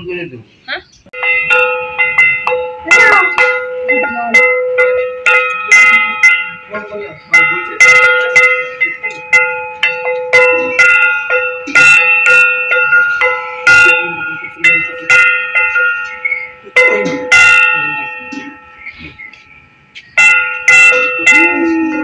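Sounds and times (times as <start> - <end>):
brass hand bell ringing: 1.2 - 22.0.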